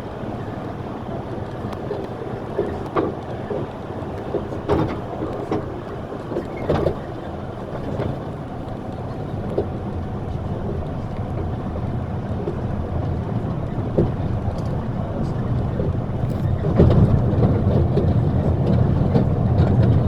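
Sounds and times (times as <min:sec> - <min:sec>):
vehicle rumbling in motion: 0:00.0 - 0:20.0.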